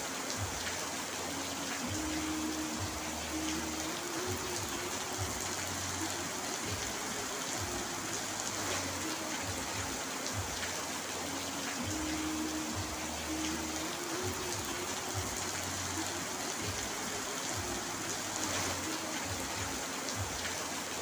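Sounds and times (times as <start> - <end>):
heavy rain on a roof: 0.0 - 21.0.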